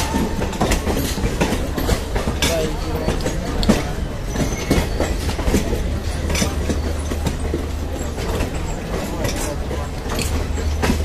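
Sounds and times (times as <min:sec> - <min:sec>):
low train rumble: 0:00.0 - 0:11.0
train wheels clattering over rail joints: 0:00.0 - 0:11.0.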